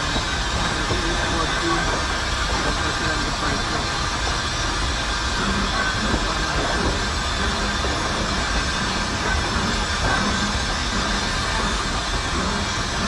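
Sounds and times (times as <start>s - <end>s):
rail clatter: 0.0s - 13.0s
steam locomotive rumble and hiss: 0.0s - 13.0s.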